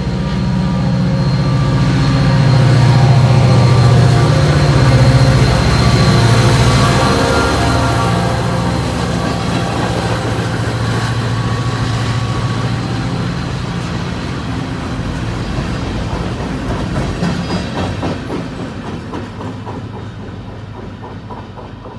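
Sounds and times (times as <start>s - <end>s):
train engine hum: 0.0s - 21.9s.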